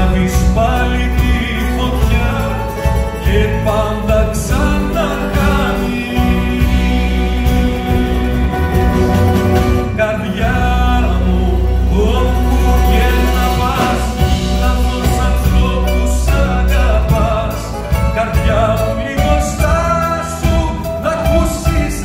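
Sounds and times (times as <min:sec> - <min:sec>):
man singing into microphone: 0:00.0 - 0:08.9, 0:09.6 - 0:22.0
live band playing ballad: 0:00.0 - 0:22.0.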